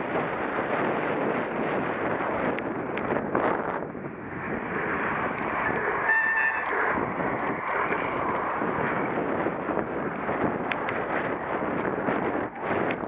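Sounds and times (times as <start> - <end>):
rolling over rough ground: 0.0 - 13.0
wind on microphone: 0.0 - 13.0.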